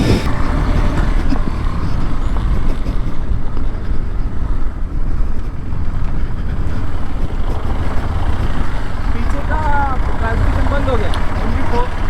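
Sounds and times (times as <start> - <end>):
vehicle engine running: 0.0 - 12.0
wind buffeting microphone: 0.0 - 12.0.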